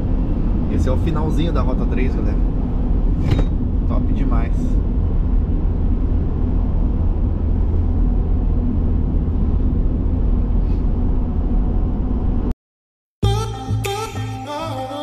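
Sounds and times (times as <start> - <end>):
van engine and tyres rumbling: 0.0 - 12.5.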